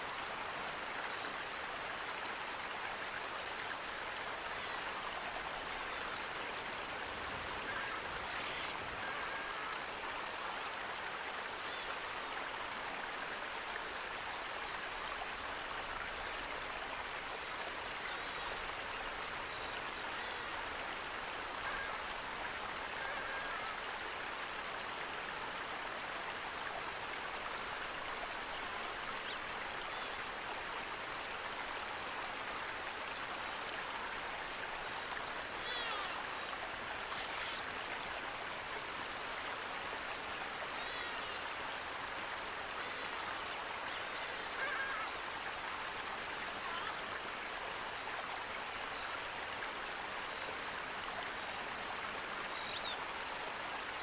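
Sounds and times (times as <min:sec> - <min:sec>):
running water flowing: 0:00.0 - 0:54.0.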